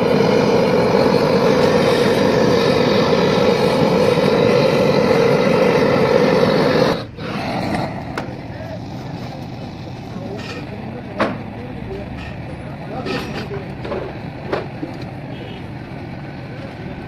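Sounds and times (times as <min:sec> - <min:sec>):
gas torch burning: 0:00.0 - 0:17.0.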